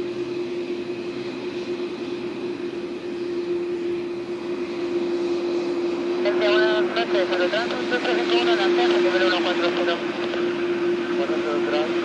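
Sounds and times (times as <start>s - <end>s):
jet engines whining at idle: 0.0s - 12.0s.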